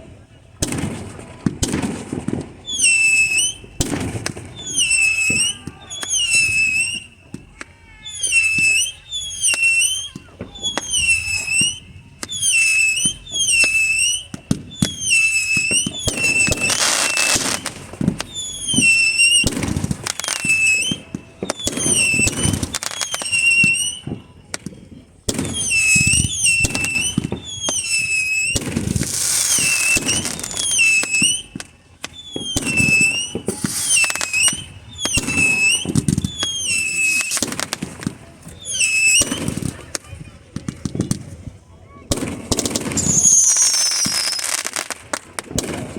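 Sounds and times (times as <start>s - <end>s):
fireworks crackling: 0.0s - 45.9s
low fireworks booms: 0.0s - 45.9s
fireworks whistling chirps: 0.6s - 40.3s, 42.1s - 45.9s.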